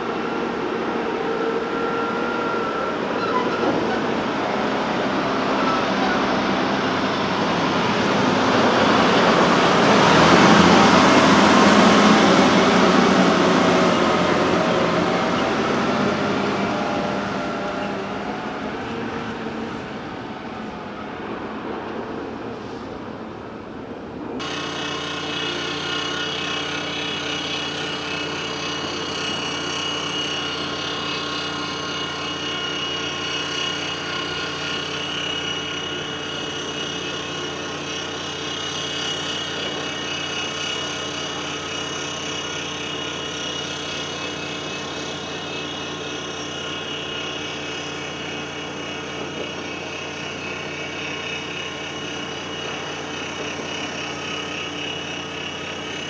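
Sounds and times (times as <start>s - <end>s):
diesel machinery engine running: 0.0s - 56.0s
steady machine whine: 0.0s - 56.0s.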